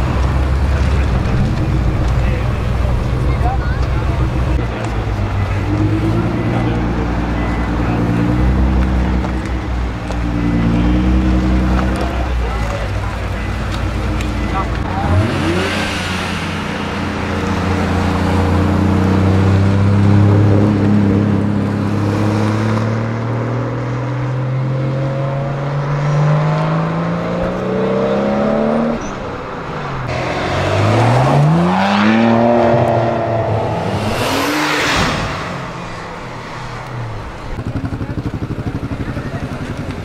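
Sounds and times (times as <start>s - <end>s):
engine revs: 0.0s - 29.1s, 30.1s - 40.0s
car engines accelerating: 0.0s - 40.0s.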